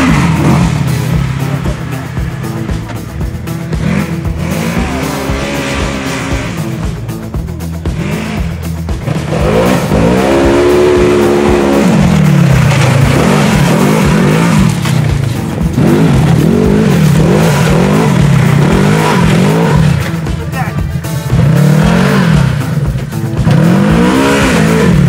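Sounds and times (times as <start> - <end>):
utv engine revving: 0.0 - 25.0.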